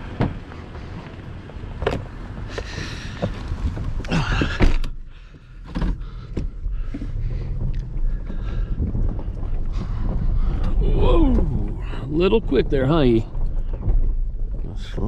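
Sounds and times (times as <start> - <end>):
knocks and rattles in truck cab: 0.0 - 15.0
low engine rumble: 0.0 - 15.0.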